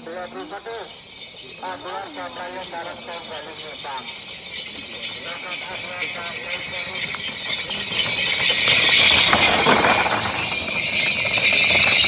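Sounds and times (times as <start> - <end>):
animal neck bells jangling: 0.0 - 12.0
pounding hooves: 0.0 - 12.0.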